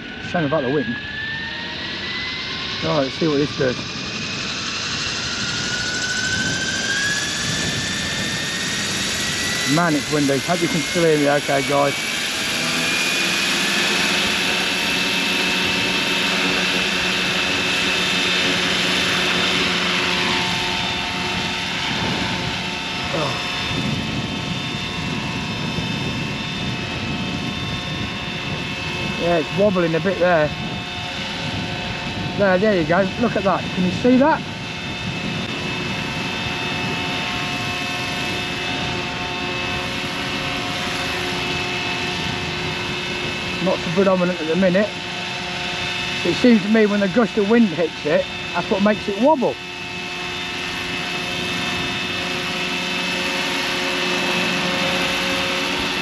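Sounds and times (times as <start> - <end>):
rc helicopter rotor whine: 0.0 - 56.0
rotor hum: 0.0 - 56.0
wind on microphone: 0.0 - 56.0.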